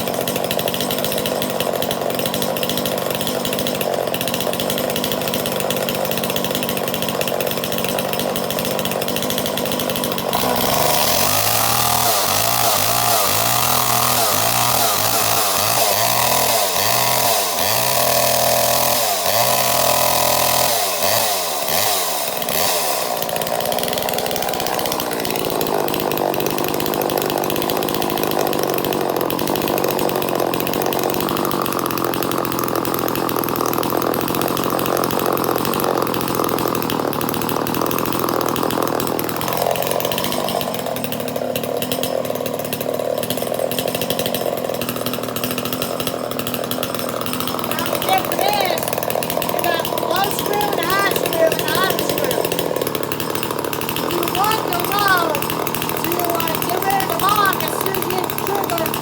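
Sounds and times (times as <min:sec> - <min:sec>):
two-stroke chainsaw engine revving: 0:00.0 - 0:59.0.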